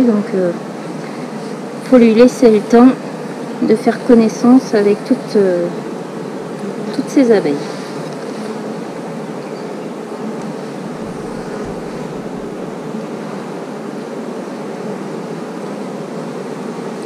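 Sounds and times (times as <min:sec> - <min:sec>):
honeybee colony humming: 0:00.0 - 0:17.0.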